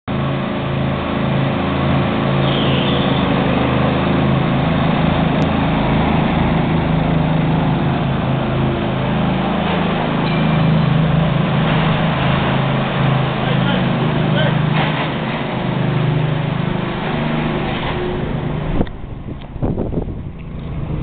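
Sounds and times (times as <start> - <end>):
riding lawn mower engines: 0.1 - 21.0.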